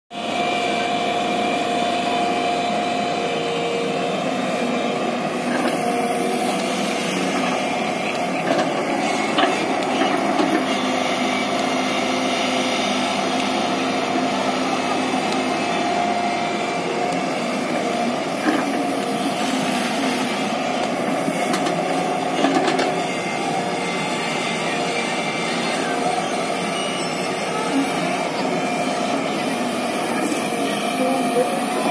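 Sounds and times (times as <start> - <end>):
excavator engine and hydraulics: 0.1 - 31.9
steady whine: 0.2 - 31.9.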